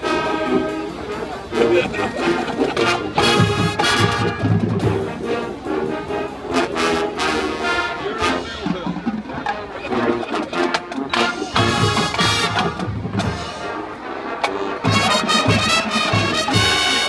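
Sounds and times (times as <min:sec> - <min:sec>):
brass chords: 0:00.0 - 0:17.0.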